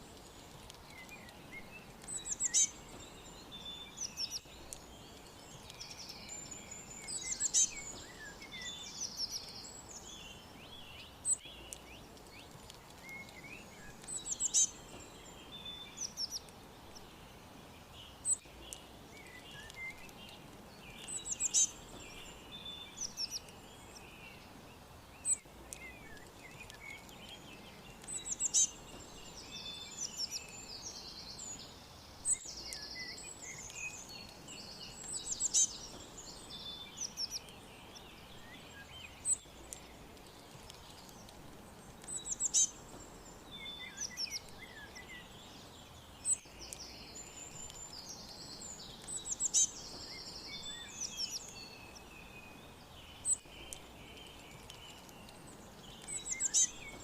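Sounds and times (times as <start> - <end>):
faint steady hiss: 0.0 - 57.0
songbirds chirping: 0.0 - 57.0.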